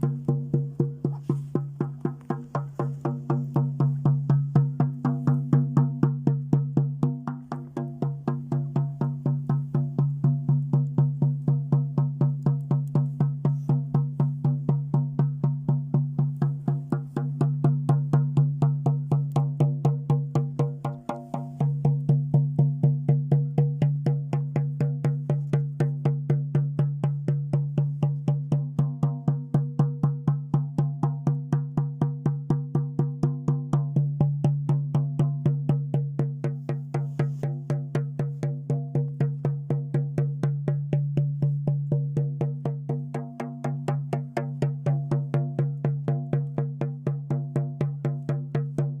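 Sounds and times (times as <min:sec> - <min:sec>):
frame drum beaten fast: 0:00.0 - 0:49.0.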